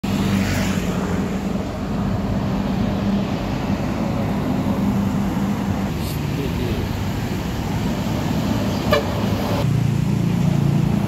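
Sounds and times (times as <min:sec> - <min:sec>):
bus engine passing: 0:00.0 - 0:11.0
road noise: 0:00.0 - 0:11.0.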